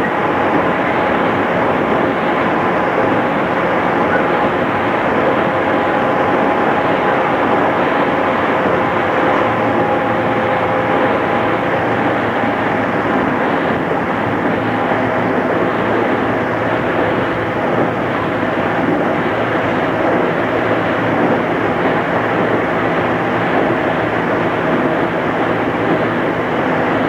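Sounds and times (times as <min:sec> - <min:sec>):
train motor whine: 0:00.0 - 0:27.0
train wheel and rail rumble: 0:00.0 - 0:27.0.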